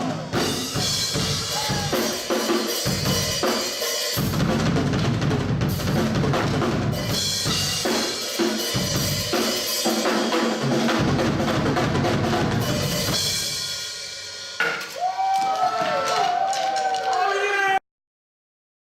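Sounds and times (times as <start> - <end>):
drum-driven music: 0.0 - 17.2.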